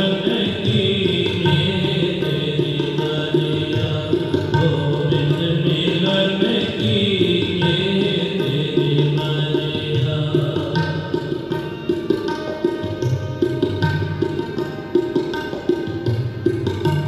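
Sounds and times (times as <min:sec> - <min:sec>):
tabla rhythm: 0:00.0 - 0:17.0.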